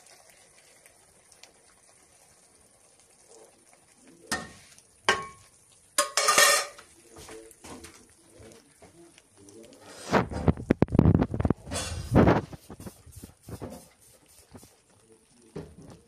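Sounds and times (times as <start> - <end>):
syrup sizzling and crackling: 0.0 - 16.0.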